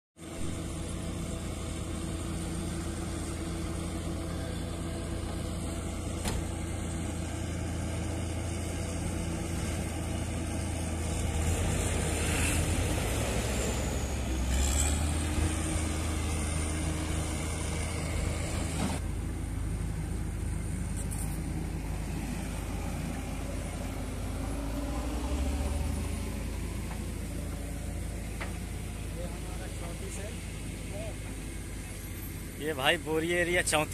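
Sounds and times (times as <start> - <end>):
distant bulldozer and backhoe working: 0.2 - 33.9
road roller diesel engine: 0.2 - 33.9.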